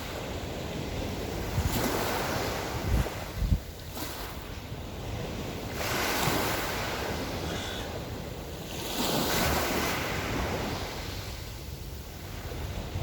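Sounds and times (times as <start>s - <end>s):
wind rumble on microphone: 0.0s - 7.5s, 8.2s - 13.0s
small waves washing ashore: 0.0s - 13.0s.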